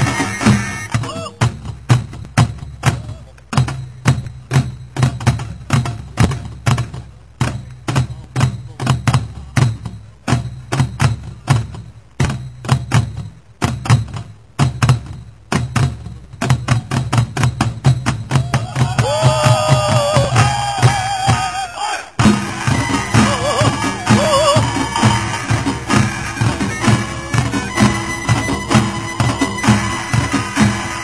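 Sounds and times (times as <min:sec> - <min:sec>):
barrel drums beaten hard: 0:00.0 - 0:31.0.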